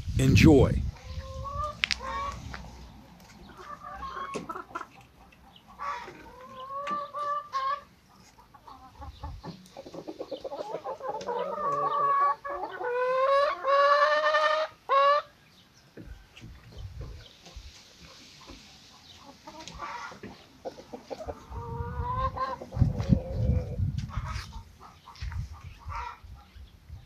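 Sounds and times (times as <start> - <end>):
chickens clucking and calling: 0.9 - 27.0.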